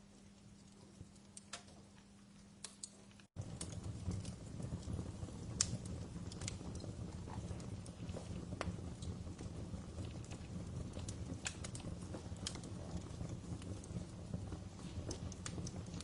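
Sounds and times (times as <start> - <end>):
fireplace fire crackling: 0.0 - 16.0
low rumble of flames: 0.0 - 16.0.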